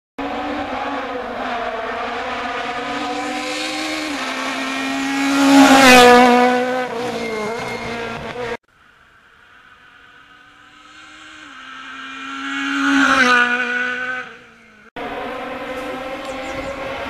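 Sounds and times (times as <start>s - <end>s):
rally car engine passing by: 0.2s - 8.6s, 10.2s - 17.0s.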